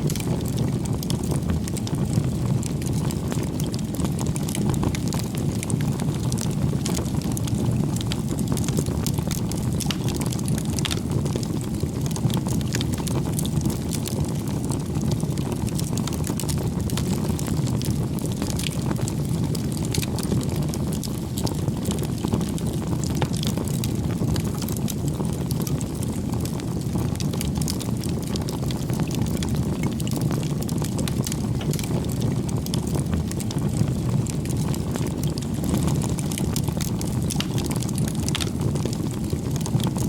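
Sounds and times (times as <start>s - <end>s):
bonfire burning: 0.0s - 40.0s
burning wood crackling and popping: 0.0s - 40.0s.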